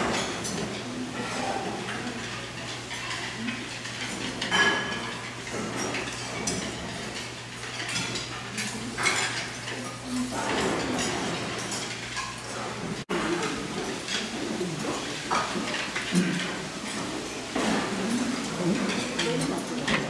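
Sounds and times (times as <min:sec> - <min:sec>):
utensils clinking on plates and bowls: 0:00.0 - 0:20.0.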